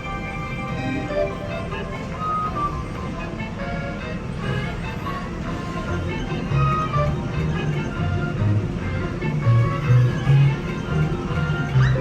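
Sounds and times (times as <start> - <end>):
low rumble of background noise: 0.0 - 12.0.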